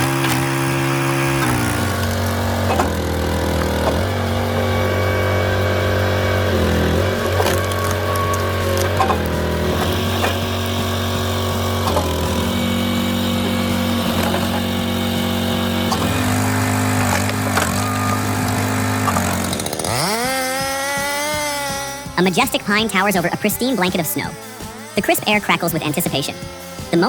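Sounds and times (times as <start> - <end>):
motor revving high: 0.0 - 27.0
small engine running: 0.0 - 27.0.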